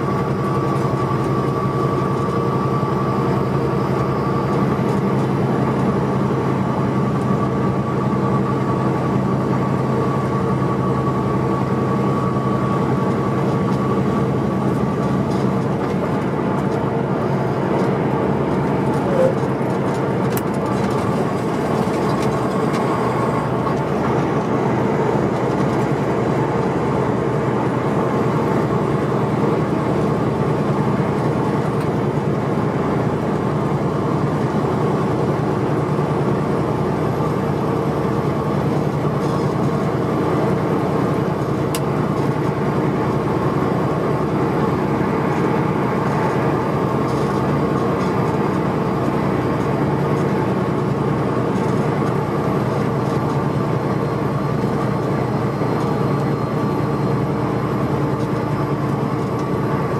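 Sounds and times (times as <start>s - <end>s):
diesel truck engine drone: 0.0s - 59.9s
road noise: 0.0s - 59.9s.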